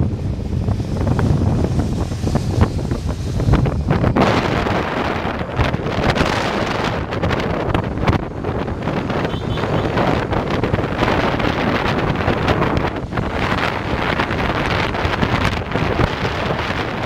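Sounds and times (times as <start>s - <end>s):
motorcycle engine: 0.0s - 17.0s
road noise: 0.0s - 17.0s
wind buffeting microphone: 0.0s - 17.0s.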